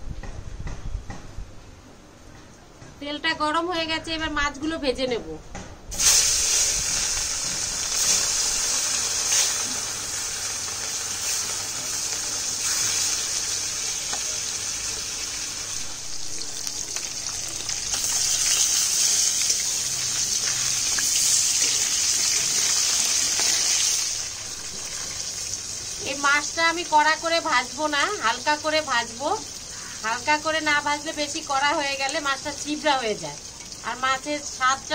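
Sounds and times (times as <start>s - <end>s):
fish sizzling in hot oil: 5.9s - 34.9s.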